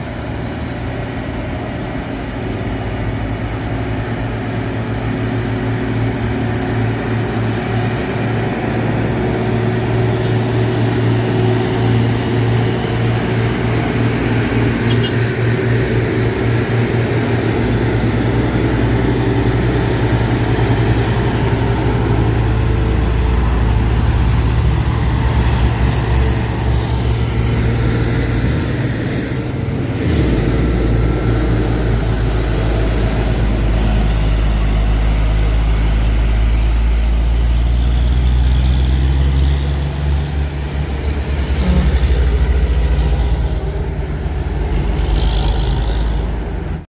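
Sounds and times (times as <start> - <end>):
truck engine droning: 0.0 - 46.9.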